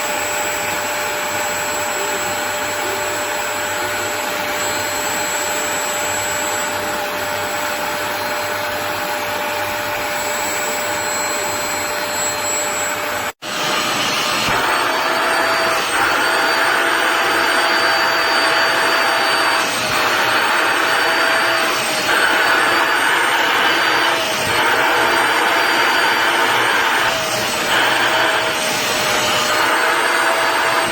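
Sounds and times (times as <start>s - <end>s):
wet vacuum motor whine: 0.0s - 30.9s.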